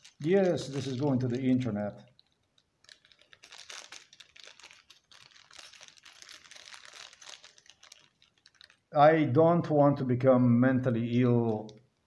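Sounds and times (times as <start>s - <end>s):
plastic packet crinkling: 0.0s - 9.0s, 11.1s - 12.0s.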